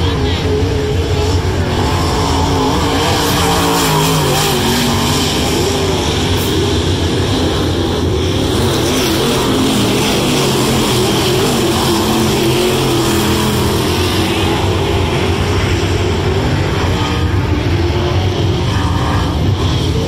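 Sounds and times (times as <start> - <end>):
race car engines droning: 0.0 - 20.0.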